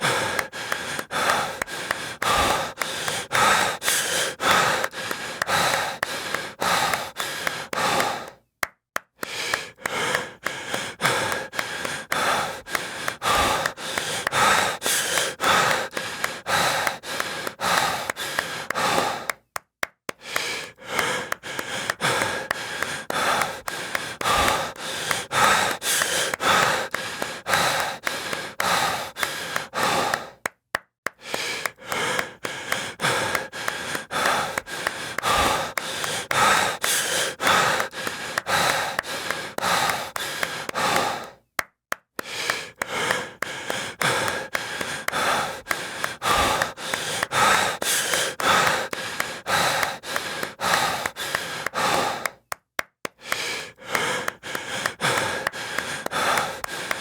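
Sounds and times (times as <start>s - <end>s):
heavy gasping breathing: 0.0s - 8.5s, 9.2s - 30.5s, 31.1s - 41.6s, 42.2s - 57.0s
quick hand claps: 0.0s - 57.0s.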